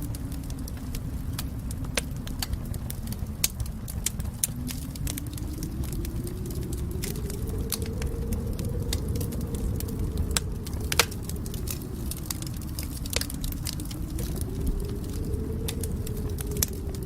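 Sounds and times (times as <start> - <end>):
low rumble: 0.0 - 17.0
wood fire crackling: 0.0 - 17.0.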